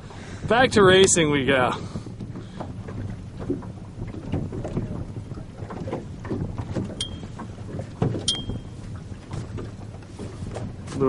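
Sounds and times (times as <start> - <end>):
water lapping against hull: 0.0 - 11.0
wind rumble on microphone: 0.0 - 11.0.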